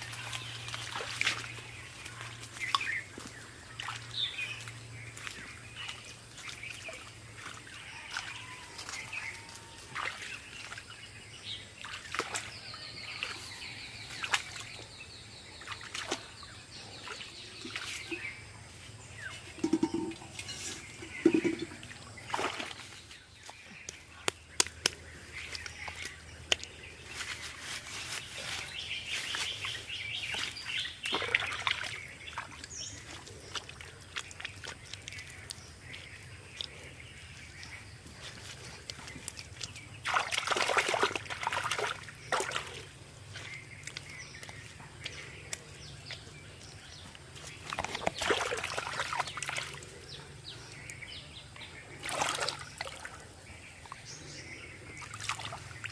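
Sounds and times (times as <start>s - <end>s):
water splashing and sloshing: 0.0s - 55.9s.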